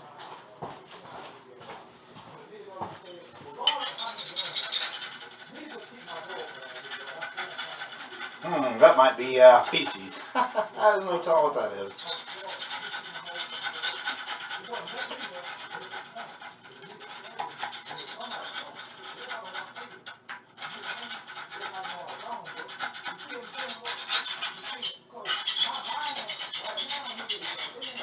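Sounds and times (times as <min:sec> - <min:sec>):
scraping against toilet parts: 0:02.9 - 0:28.0.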